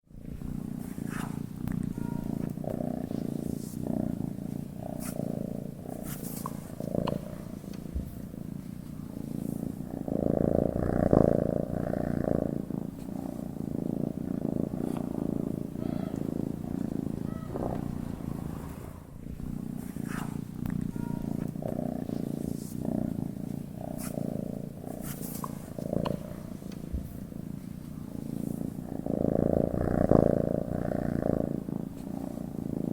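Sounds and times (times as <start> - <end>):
cat purring: 0.0 - 32.9.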